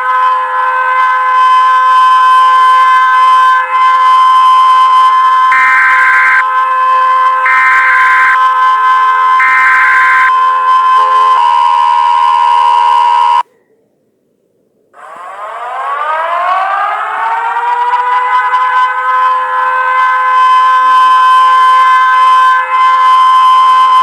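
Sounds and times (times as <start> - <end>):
multi-tone alarm: 0.0 - 13.4, 15.0 - 24.0
siren winding up: 0.0 - 13.4, 15.0 - 24.0.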